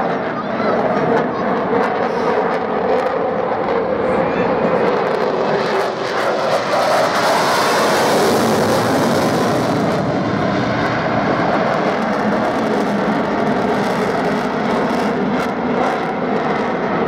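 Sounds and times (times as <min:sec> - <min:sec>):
fighter jet noise: 0:00.0 - 0:17.0.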